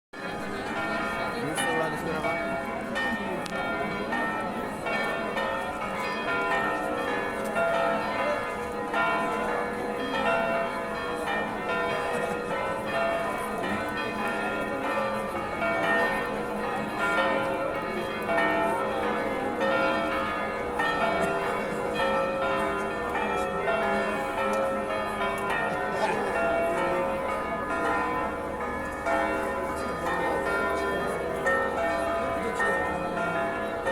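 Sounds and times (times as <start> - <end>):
church bells pealing: 0.2 - 33.9.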